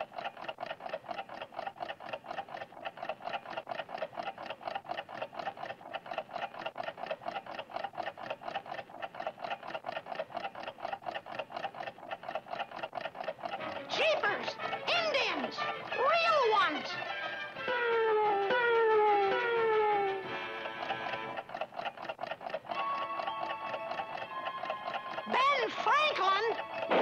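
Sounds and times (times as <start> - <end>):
cartoon clock ticking rapidly: 0.0 - 27.0.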